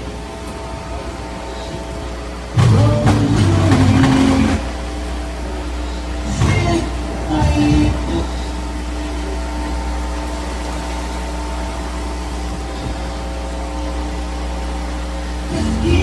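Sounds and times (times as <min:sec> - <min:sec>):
heavy rain falling: 0:00.0 - 0:15.4
low mechanical hum: 0:00.0 - 0:16.0.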